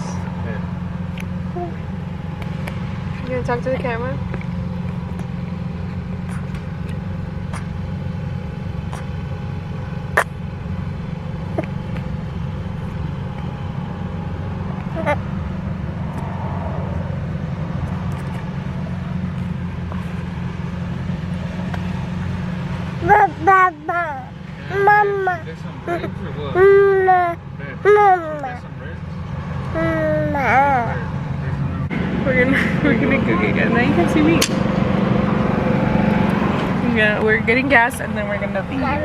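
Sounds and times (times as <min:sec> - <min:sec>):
car cabin road rumble: 0:00.0 - 0:39.0.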